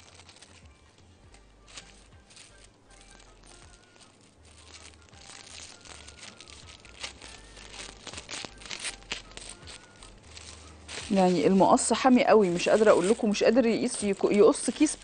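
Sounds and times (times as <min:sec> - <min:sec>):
plastic bag crinkling and tearing: 0:00.0 - 0:15.0.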